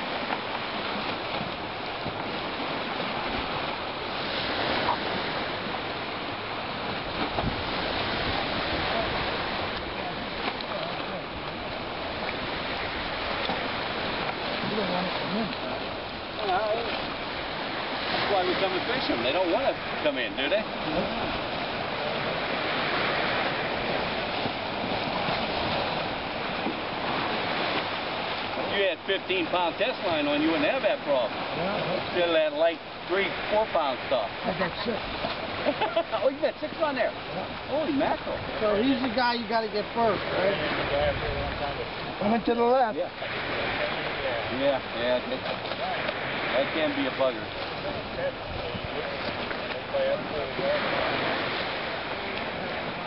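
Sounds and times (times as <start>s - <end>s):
wind buffeting microphone: 0.0s - 28.8s, 34.8s - 53.0s
choppy water rushing: 0.0s - 53.0s
lake waves washing: 0.0s - 53.0s.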